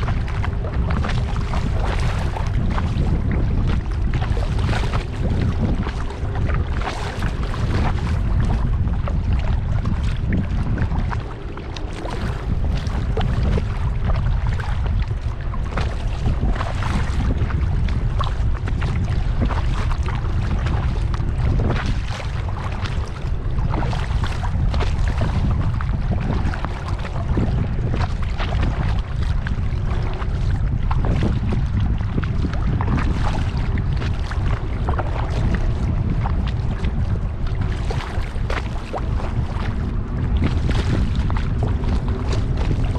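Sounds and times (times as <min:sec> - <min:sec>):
water splashing around a kayak: 0:00.0 - 0:42.9
wind rumble on microphone: 0:00.0 - 0:42.9.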